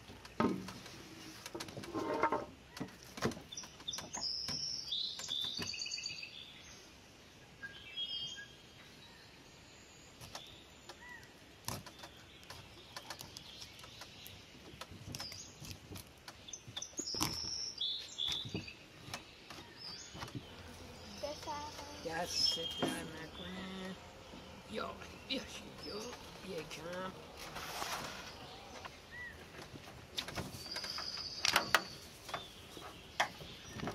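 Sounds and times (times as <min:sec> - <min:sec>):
small birds chirping: 0:02.6 - 0:33.9.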